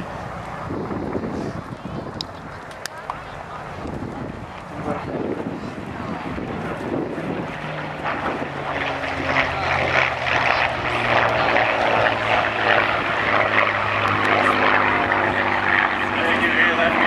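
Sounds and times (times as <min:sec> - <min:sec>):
aircraft engine roar fly-by: 0:00.0 - 0:17.0.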